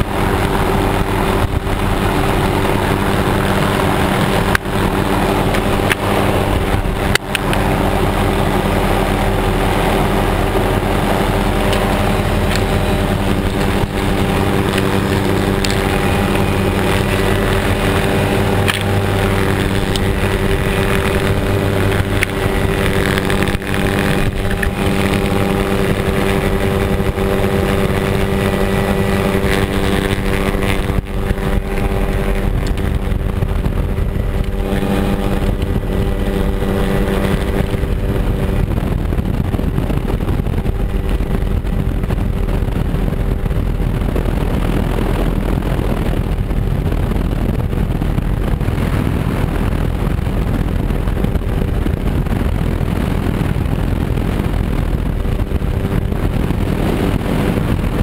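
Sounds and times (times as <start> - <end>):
helicopter drone: 0.0 - 58.0
wind rushing over microphone: 0.0 - 58.0.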